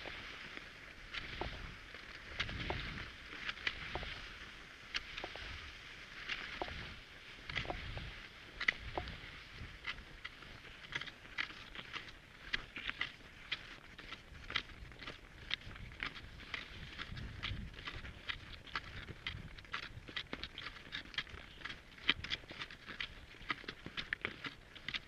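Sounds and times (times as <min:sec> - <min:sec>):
ski poles clicking: 0:00.0 - 0:25.0
skis swishing over snow: 0:00.0 - 0:25.0.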